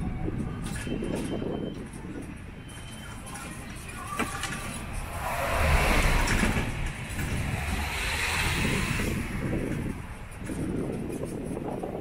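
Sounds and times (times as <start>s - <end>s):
road train rumbling: 2.4s - 12.0s.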